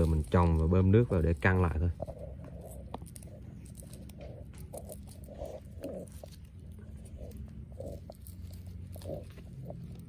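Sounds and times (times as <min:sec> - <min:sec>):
soil rustling and crumbling: 0:00.0 - 0:10.0
steady low hum: 0:00.0 - 0:10.0.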